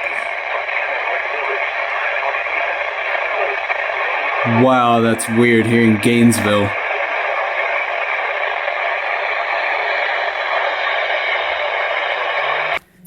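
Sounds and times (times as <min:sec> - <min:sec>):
weather radio static hiss: 0:00.0 - 0:12.8.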